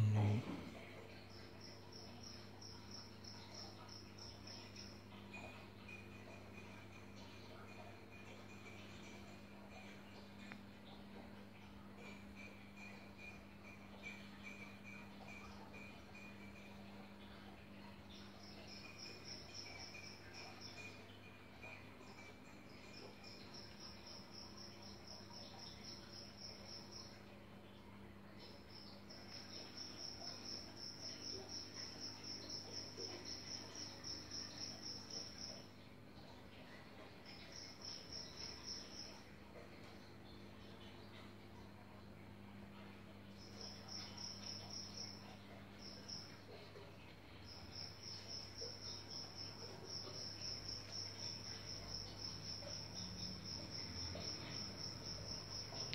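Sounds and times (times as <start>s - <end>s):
cricket chirping trill: 0.0s - 55.9s
faint low hum: 0.0s - 55.9s.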